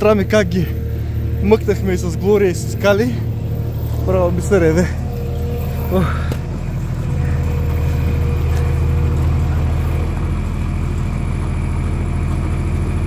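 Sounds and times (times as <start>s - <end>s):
loader engine running steadily: 0.0s - 13.0s.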